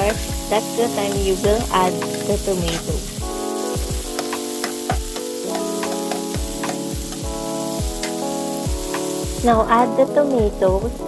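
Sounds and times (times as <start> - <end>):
background music with steady beat: 0.0 - 11.0
garlic and onion frying in oil: 0.0 - 11.0.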